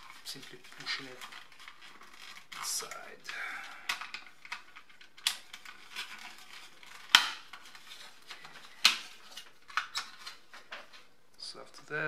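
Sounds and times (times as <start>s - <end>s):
rustling handling noises: 0.0s - 11.9s.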